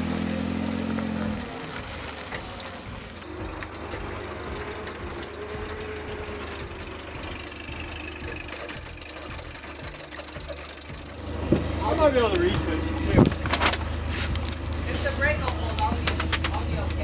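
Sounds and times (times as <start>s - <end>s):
engine idling: 0.0s - 17.0s
loud low hum: 0.0s - 17.0s.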